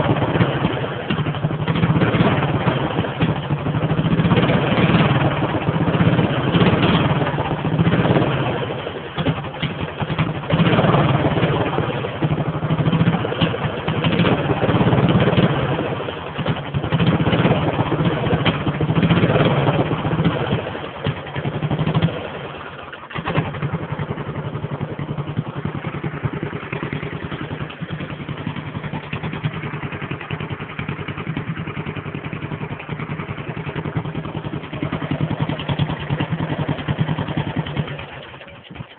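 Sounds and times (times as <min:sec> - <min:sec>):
lawnmower engine revving and idling: 0:00.0 - 0:38.9.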